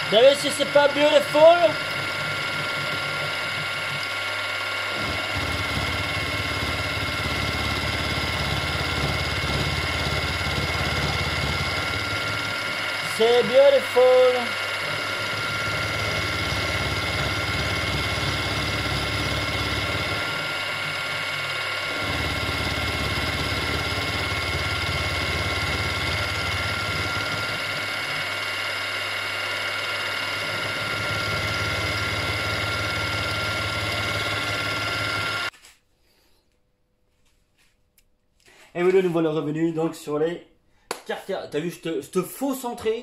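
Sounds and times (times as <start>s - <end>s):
low rumble of metal cutting: 0.0s - 35.5s
milling machine whining: 0.0s - 35.5s.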